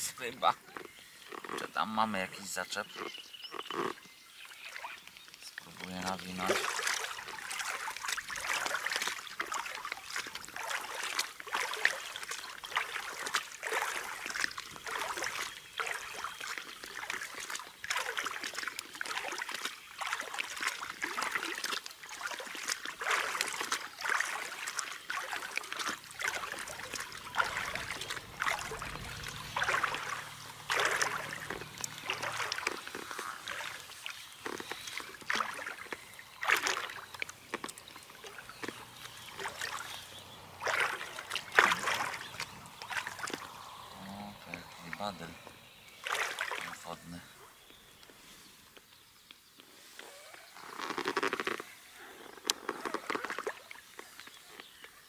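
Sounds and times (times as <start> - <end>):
water splashing: 0.0 - 47.6, 50.6 - 54.6.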